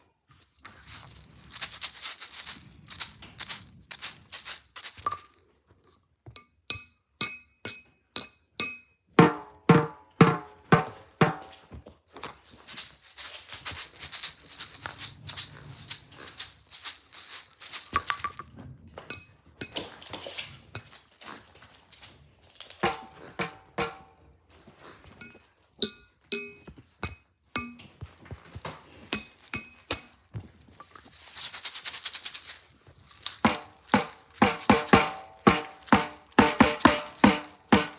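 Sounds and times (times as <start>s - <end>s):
rattling and shaking: 0.3s - 5.6s, 9.2s - 21.1s, 22.7s - 24.2s, 25.8s - 37.9s.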